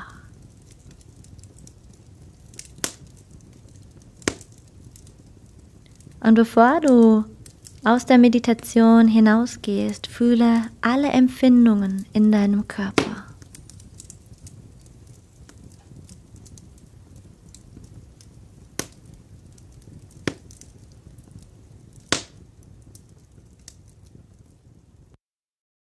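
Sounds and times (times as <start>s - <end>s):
sharp fire pops: 0.0s - 25.2s
wood fire crackling: 0.0s - 25.2s.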